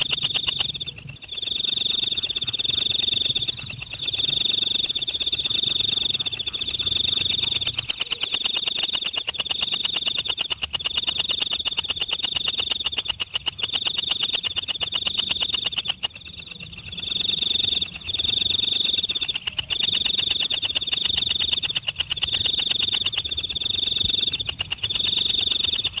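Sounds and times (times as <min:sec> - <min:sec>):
insect pulsing trill: 0:00.0 - 0:26.0.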